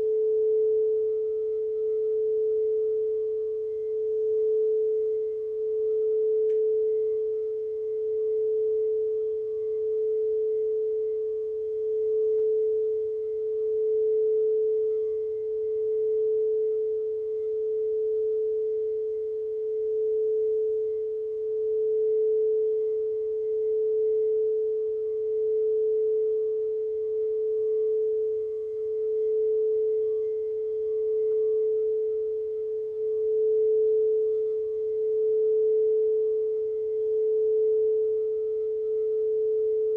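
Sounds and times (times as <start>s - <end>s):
singing bowl sustained tone: 0.0s - 39.9s.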